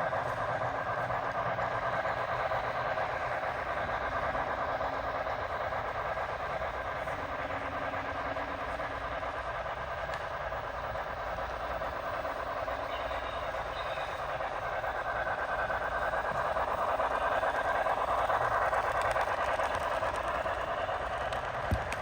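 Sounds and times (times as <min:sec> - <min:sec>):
model train rolling on track: 0:00.0 - 0:22.0.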